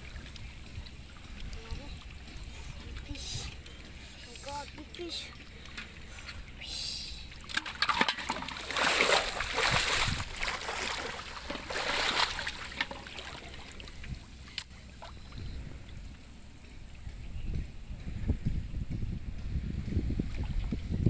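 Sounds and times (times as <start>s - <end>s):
water splashing and sloshing: 0.0s - 17.1s, 19.7s - 21.0s.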